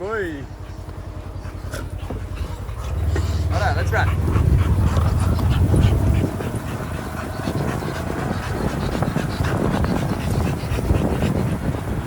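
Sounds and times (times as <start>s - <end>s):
dogs panting: 0.0s - 12.0s
low rumble: 0.0s - 12.0s.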